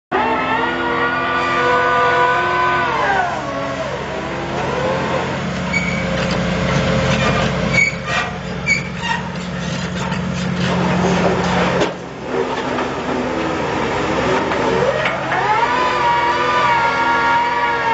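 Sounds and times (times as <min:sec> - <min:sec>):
machine engine and hydraulic hum: 0:00.1 - 0:17.9.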